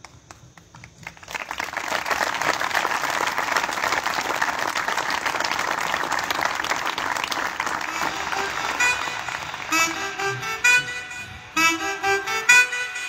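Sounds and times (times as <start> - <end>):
crowd clapping: 0.0 - 13.0.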